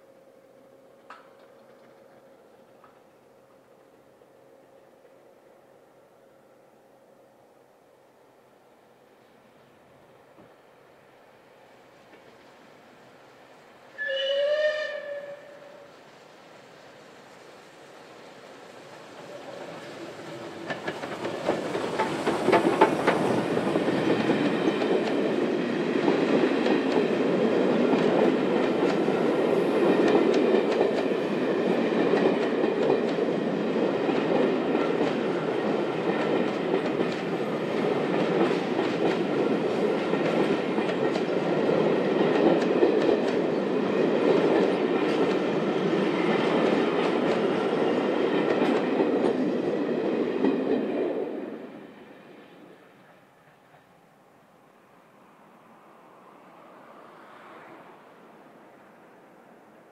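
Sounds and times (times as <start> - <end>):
train rumble: 0.0 - 6.5, 9.6 - 59.8
steam locomotive passing: 0.0 - 59.9.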